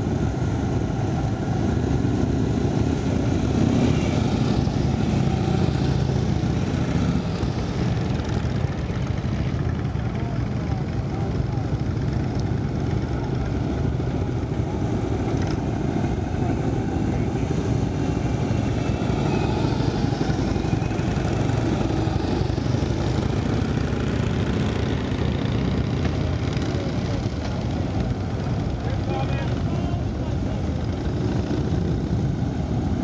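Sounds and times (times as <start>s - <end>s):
motorcycles riding past: 0.0s - 33.0s.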